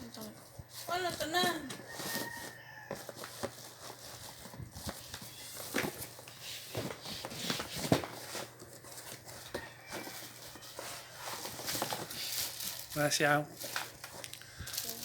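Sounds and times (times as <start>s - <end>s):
plastic parts knocking and rustling: 0.6s - 15.0s.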